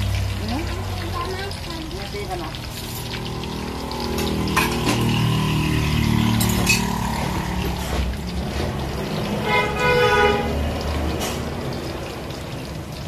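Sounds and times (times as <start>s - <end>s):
oil bubbling in a wok: 0.0s - 13.0s.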